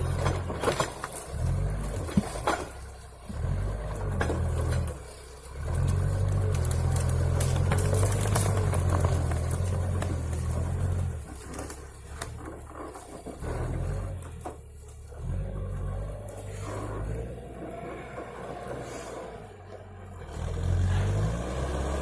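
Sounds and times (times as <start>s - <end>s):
heavy machine engine running hard: 0.0s - 22.0s.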